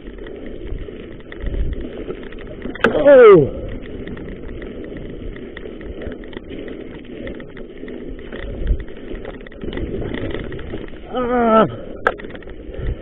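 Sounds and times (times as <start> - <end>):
bike rattling clicks: 0.0 - 13.0
bike tyres rumbling on dirt: 0.0 - 13.0.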